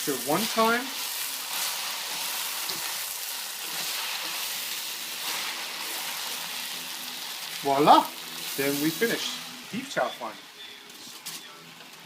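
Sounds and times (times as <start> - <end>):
noodles sizzling in a wok: 0.0 - 12.0.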